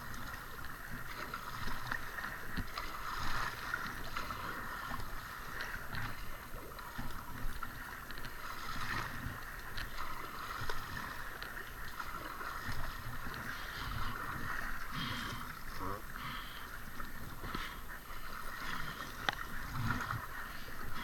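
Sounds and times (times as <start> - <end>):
paddle strokes splashing: 0.0 - 21.0
water sloshing around hull: 0.0 - 21.0.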